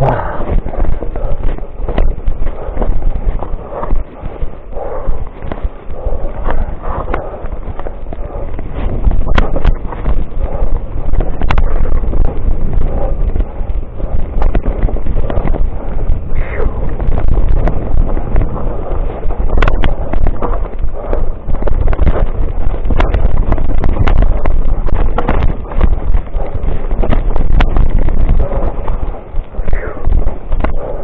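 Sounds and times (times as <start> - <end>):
mountain bike rattling: 0.0 - 31.0
wind buffeting microphone: 0.0 - 31.0.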